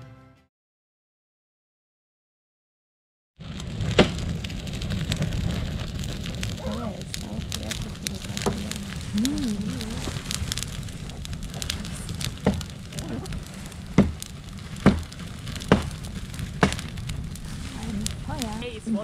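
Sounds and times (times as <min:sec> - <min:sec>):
campfire crackling: 0:03.4 - 0:19.0
sharp fire pops: 0:03.4 - 0:19.0.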